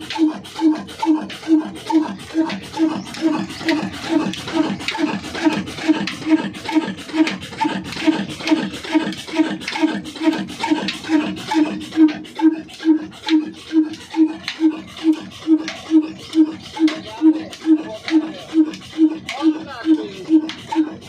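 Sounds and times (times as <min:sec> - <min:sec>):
slow diesel engine running: 0:00.0 - 0:21.0.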